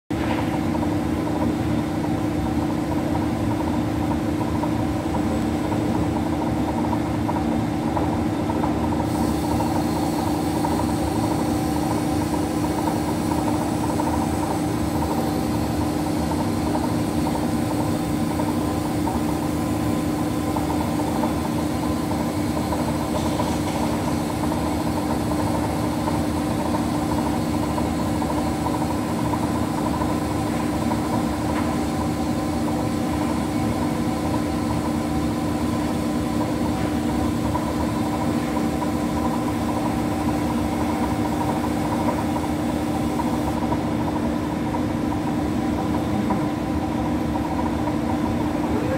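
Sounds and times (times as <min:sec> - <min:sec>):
lathe machine hum: 0:00.6 - 0:48.9.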